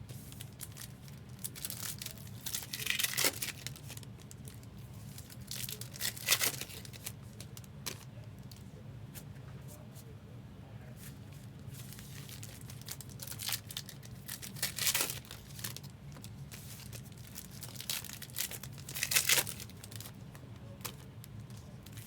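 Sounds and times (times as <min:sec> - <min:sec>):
card wrappers tearing and crinkling: 0:00.2 - 0:08.1, 0:11.8 - 0:22.0.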